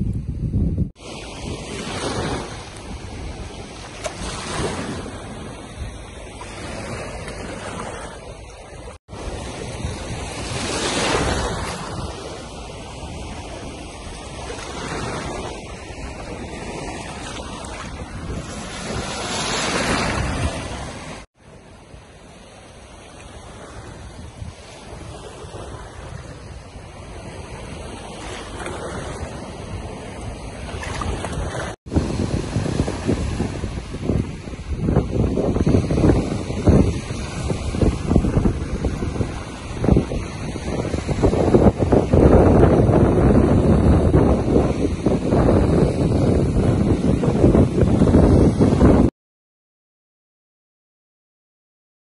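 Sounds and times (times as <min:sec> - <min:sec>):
wind buffeting microphone: 0:00.0 - 0:49.1
small waves washing on beach: 0:00.9 - 0:49.1.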